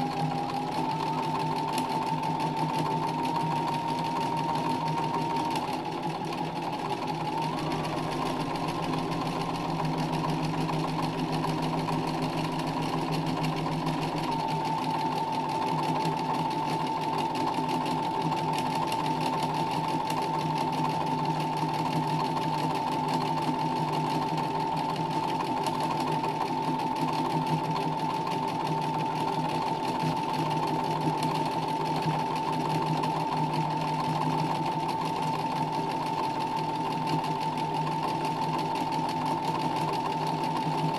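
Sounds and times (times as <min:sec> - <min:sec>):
sewing machine stitching: 0:00.0 - 0:40.9.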